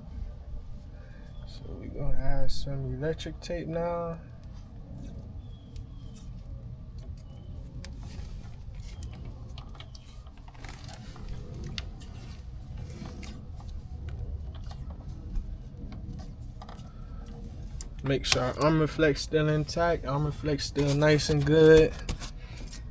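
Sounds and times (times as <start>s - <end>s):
steady low rumble: 0.0s - 22.9s
electrical tape crackling: 3.0s - 22.9s.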